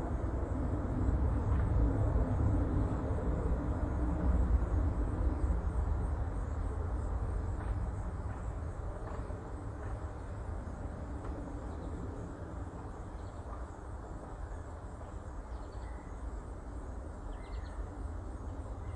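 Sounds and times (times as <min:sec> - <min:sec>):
road traffic rumble: 0:00.0 - 0:15.5.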